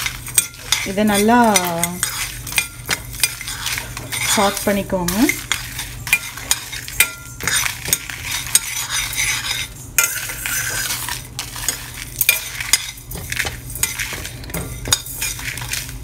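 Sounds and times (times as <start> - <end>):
spatula scraping steel pan: 0.0 - 16.0
spices rattling in pan: 0.0 - 16.0.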